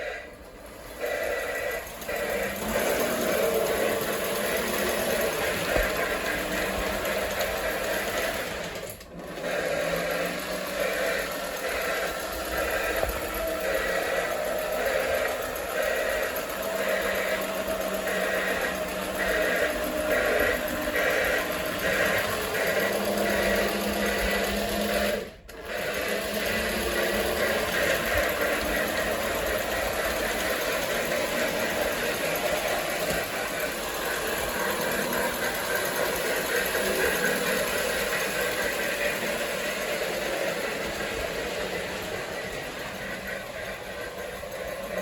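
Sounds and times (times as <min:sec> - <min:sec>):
toy train mechanism whirring: 0:00.0 - 0:45.0
toy train steam chuff: 0:00.0 - 0:45.0.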